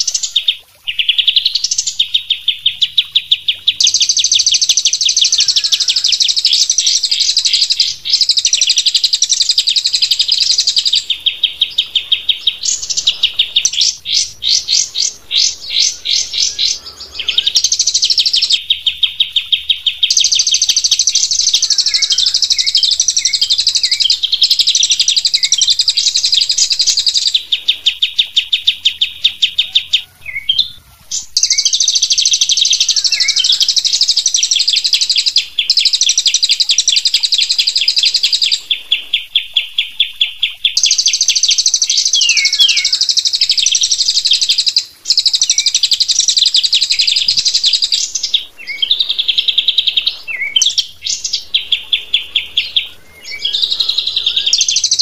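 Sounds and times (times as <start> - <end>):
low slurred bird whistles: 0.0 - 39.3, 40.6 - 55.0
fast rattling bird trill: 0.0 - 55.0.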